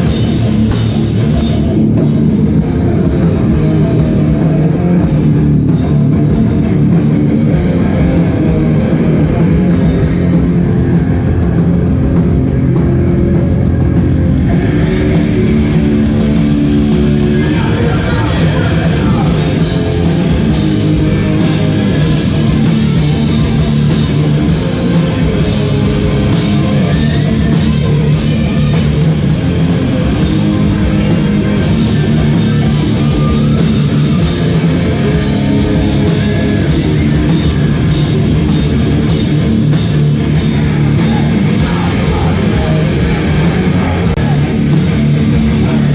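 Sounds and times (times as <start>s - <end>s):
loud distorted band playing: 0.0s - 45.9s.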